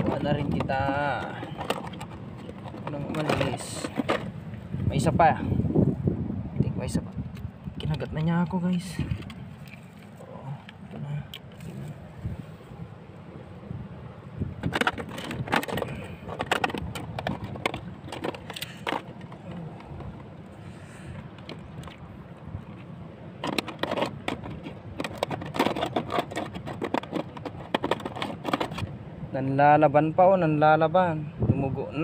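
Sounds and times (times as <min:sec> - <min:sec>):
steady low rumble: 0:00.0 - 0:26.1.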